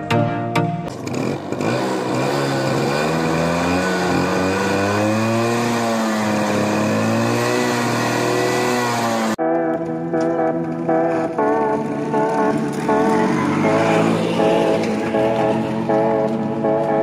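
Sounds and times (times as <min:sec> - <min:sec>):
scooter engine running: 0:00.8 - 0:17.0.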